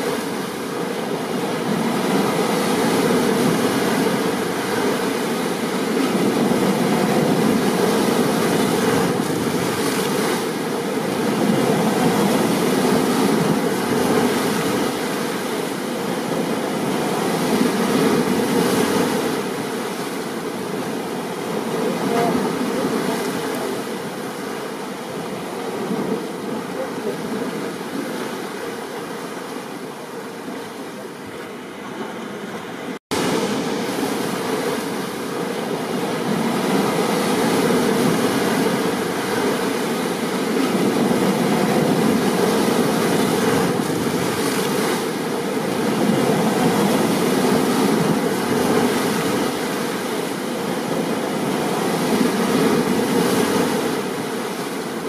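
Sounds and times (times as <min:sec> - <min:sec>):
stormy ocean surf: 0:00.0 - 0:55.0.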